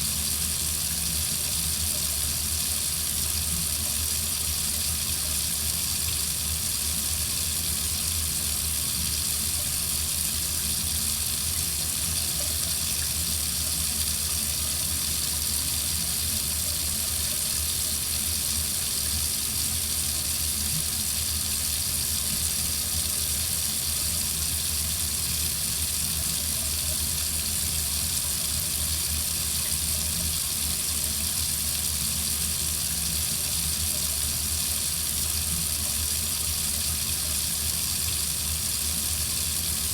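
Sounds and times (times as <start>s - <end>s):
water faucet running: 0.0s - 39.9s.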